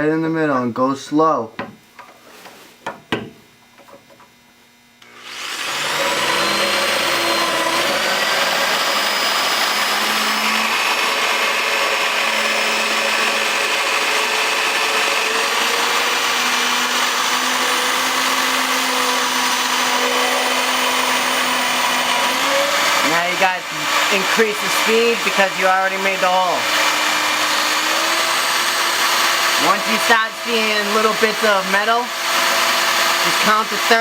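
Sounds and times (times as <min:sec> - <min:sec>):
drill whining into metal: 0:05.0 - 0:34.0.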